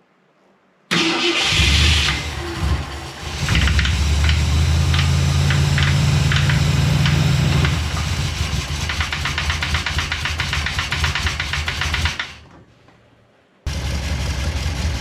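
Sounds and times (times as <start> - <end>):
engine droning: 1.0 - 12.4, 13.7 - 15.0
engine ticking: 1.0 - 12.4, 13.7 - 15.0.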